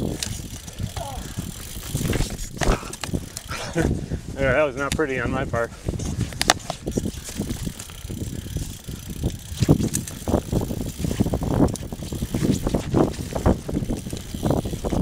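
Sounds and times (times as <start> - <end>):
bike rattling and knocking: 0.0 - 15.0
bike tyres rumbling on dirt: 0.0 - 15.0.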